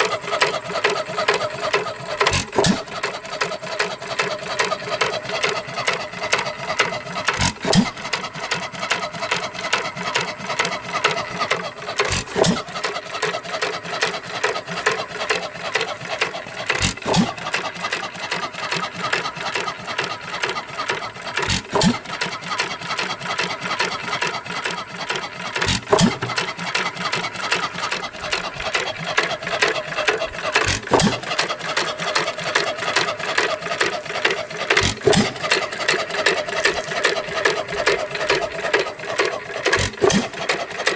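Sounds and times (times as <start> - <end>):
hit-and-miss engine firing: 0.0 - 3.2, 3.8 - 9.1, 10.0 - 24.6, 25.2 - 40.9
engine parts clattering: 0.0 - 40.9.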